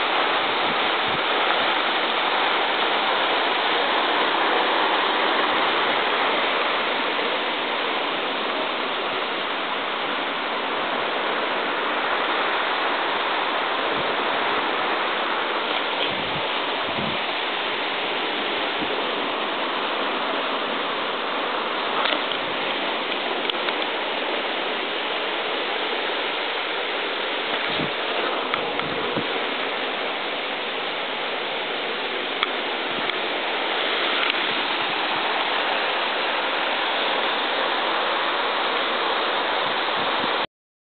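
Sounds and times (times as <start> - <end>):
waterfall rushing: 0.0 - 40.5.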